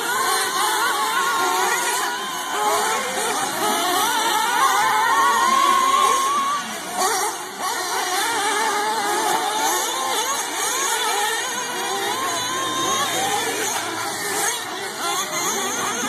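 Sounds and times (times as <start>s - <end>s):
model car engines revving: 0.0s - 16.0s.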